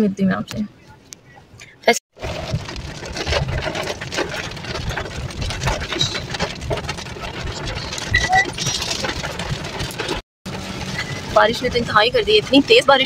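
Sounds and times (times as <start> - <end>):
car engine and road noise: 2.2 - 13.0
heavy rain on car roof: 2.2 - 13.0.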